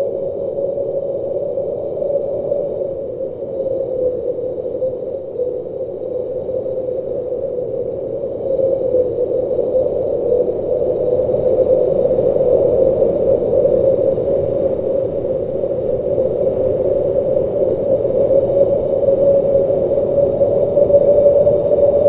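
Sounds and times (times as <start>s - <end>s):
blizzard wind blowing: 0.0s - 22.0s.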